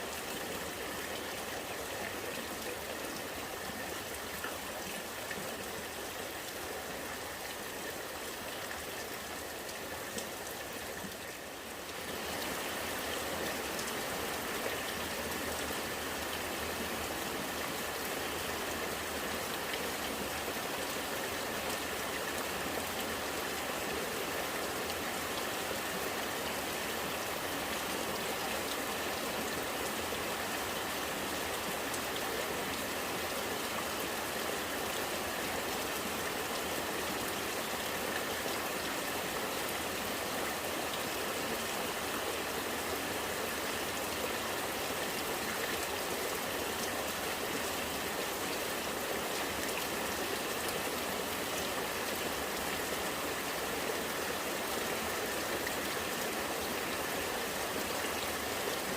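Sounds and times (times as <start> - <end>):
rain falling: 0.0 - 58.9
rainwater running and gurgling: 0.0 - 58.9.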